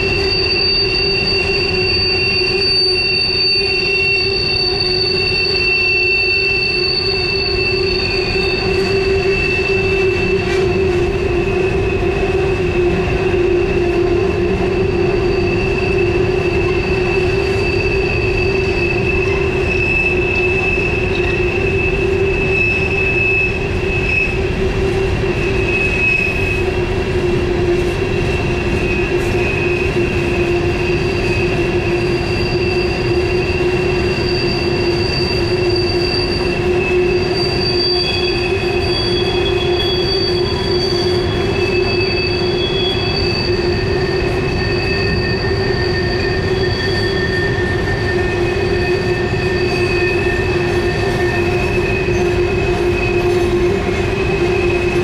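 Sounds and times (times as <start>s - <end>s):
rumble of wheels on track: 0.0s - 55.0s
train wheels squealing on rails: 0.0s - 55.0s.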